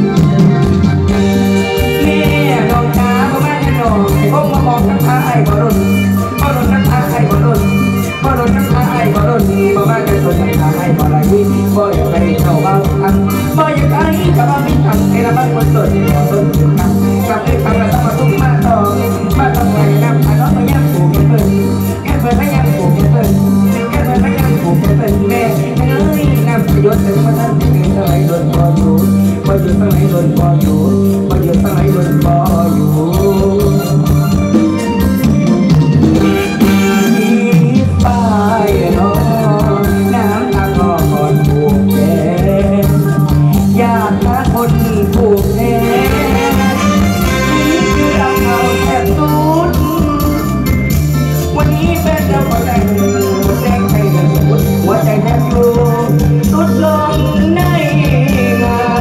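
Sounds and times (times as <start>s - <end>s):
bass line: 0.0s - 59.0s
live band playing: 0.0s - 59.0s
steady drum beat: 0.0s - 59.0s.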